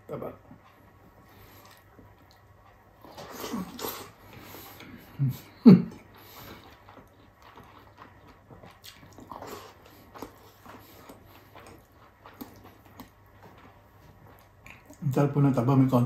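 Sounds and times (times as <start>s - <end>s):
chewing and mouth smacking: 0.5s - 5.1s, 5.9s - 15.2s.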